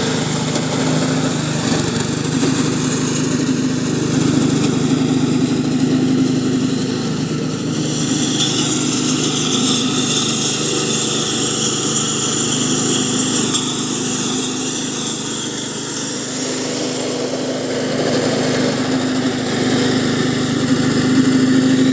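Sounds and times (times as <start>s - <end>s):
lawn mower engine cutting grass: 0.0s - 21.9s.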